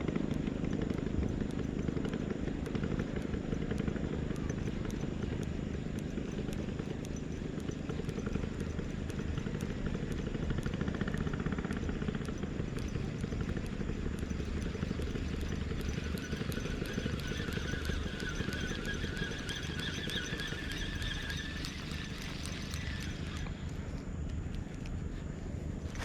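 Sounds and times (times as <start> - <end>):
small boat engine running: 0.0 - 26.0.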